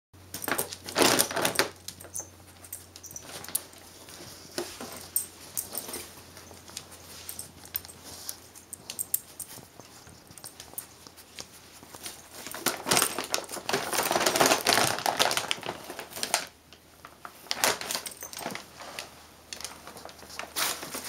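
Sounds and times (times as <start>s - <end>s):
plastic bag crinkling and rustling: 0.3s - 21.0s.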